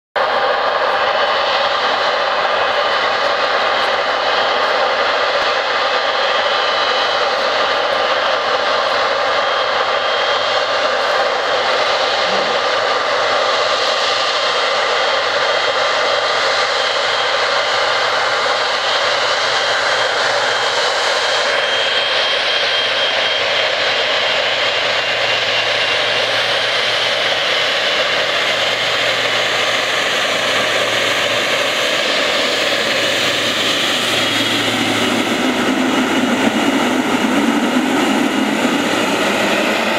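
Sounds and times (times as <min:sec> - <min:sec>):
jet engines at takeoff power: 0:00.2 - 0:39.9.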